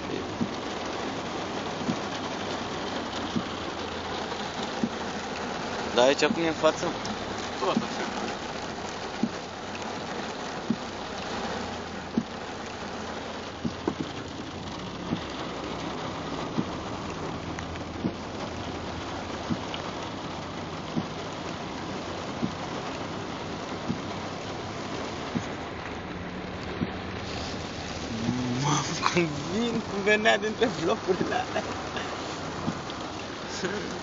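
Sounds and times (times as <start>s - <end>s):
car low hum: 0.0s - 34.0s
heavy rain on car roof: 0.0s - 34.0s.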